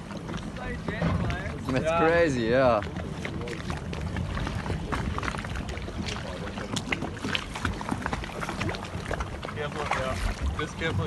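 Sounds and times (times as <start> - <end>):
low steady rumble: 0.0 - 11.0
water splashing against boat hull: 0.0 - 11.0.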